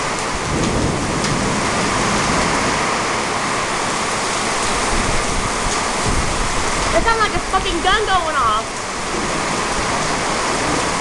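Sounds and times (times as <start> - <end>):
torrential rain downpour: 0.0 - 11.0.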